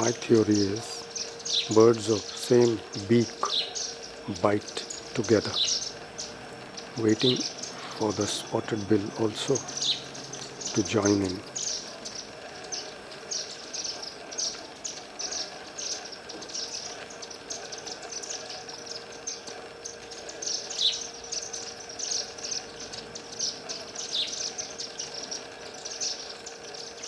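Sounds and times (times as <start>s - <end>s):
faint steady hum: 0.0s - 27.0s
small birds chirping: 0.0s - 27.0s.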